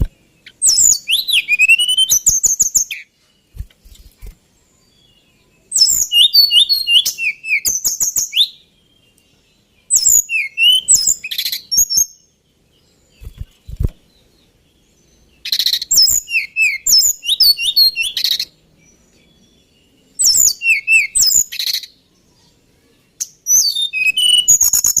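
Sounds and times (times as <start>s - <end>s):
bird singing whistled notes: 0.0s - 22.6s, 23.2s - 25.0s.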